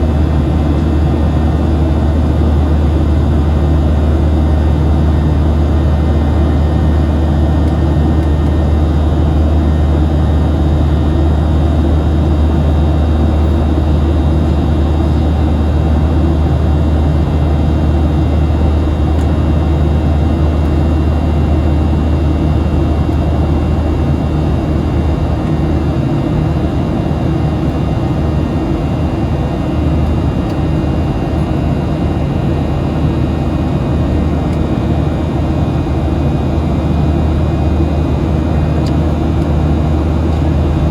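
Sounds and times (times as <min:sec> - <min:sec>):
jet engine drone: 0:00.0 - 0:40.9.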